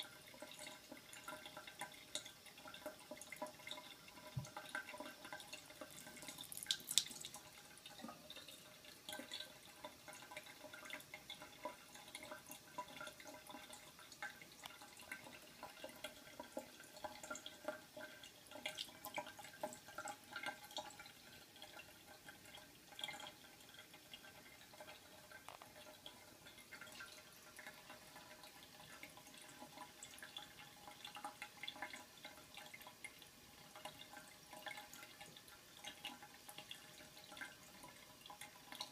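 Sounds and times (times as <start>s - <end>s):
tap water trickling into a sink: 0.0s - 38.9s
water drips and splashes: 0.0s - 38.9s.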